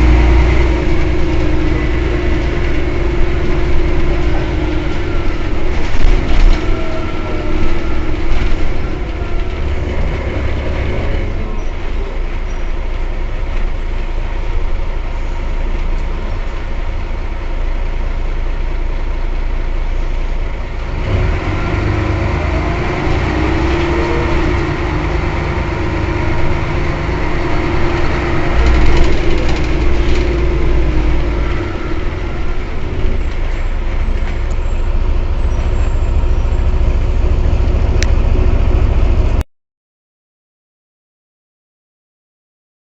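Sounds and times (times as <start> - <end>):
bus engine rumble: 0.0 - 39.4.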